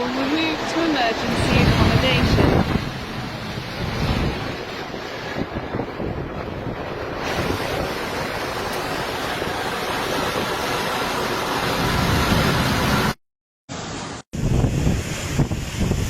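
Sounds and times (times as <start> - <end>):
strong wind buffeting microphone: 0.0 - 13.2, 14.3 - 16.0.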